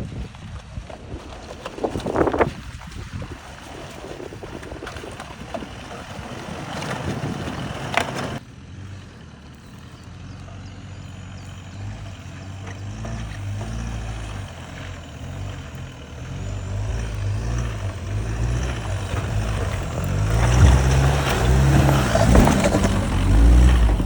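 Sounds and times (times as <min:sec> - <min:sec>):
off-road vehicle rumble: 0:00.0 - 0:24.0
steady engine hum: 0:00.0 - 0:24.0.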